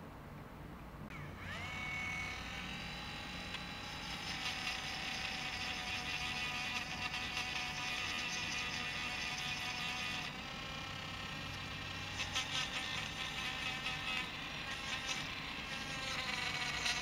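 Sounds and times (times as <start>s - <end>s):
rotary tool whine: 1.1s - 17.0s.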